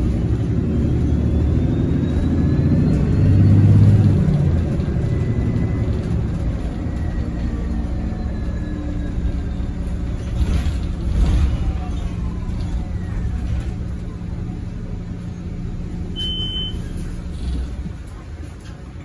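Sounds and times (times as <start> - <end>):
bus cabin low rumble: 0.0 - 19.0
bus jolt: 0.0 - 19.0.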